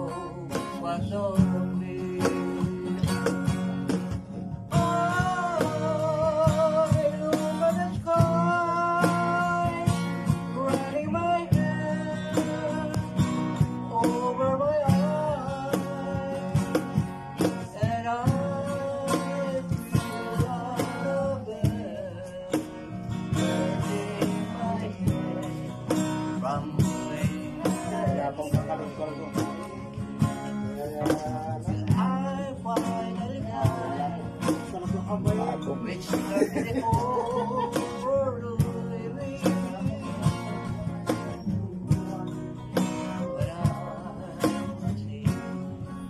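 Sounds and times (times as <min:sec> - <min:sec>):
acoustic guitars strummed: 0:00.0 - 0:46.0
cajon beat: 0:00.0 - 0:46.0
man singing: 0:00.0 - 0:46.0.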